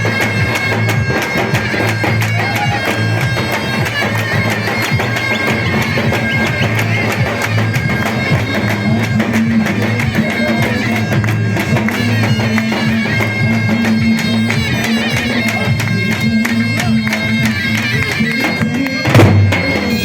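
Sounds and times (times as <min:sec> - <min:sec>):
double-reed pipe melody: 0:00.0 - 0:20.0.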